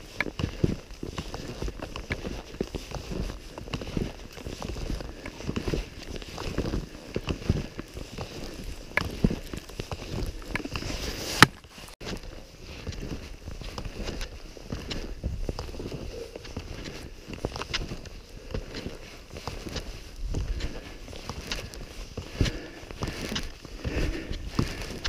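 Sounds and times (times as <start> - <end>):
ski pole plants: 0.0 - 25.0
skis shuffling on snow: 0.0 - 25.0.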